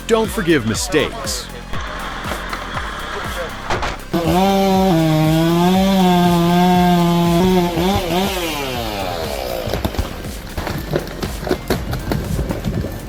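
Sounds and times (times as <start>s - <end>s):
chainsaw cutting: 1.1s - 13.0s.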